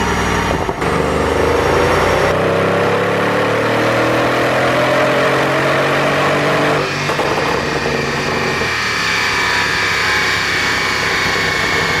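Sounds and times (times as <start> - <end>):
car engine revving and popping: 0.0 - 12.0.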